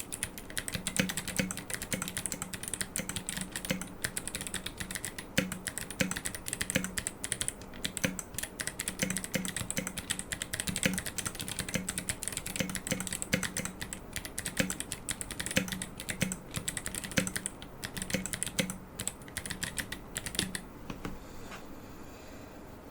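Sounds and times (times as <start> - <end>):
fast typing on mechanical keyboard: 0.0 - 20.7.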